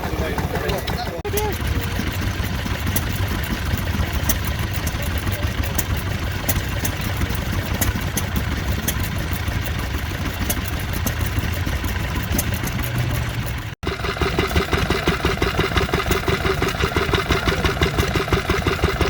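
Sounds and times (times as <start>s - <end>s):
stationary engine running: 0.0s - 19.0s.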